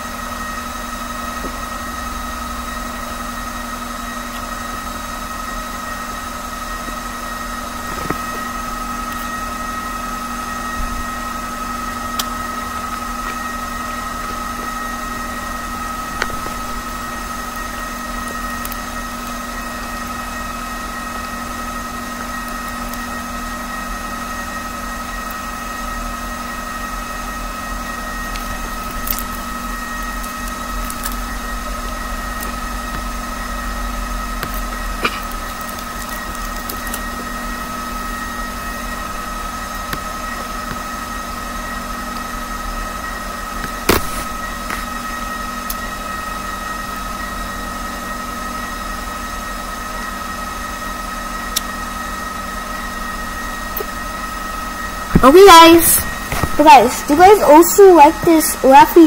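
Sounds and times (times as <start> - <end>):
steady tonal hum: 4.2 - 48.2, 52.5 - 59.0.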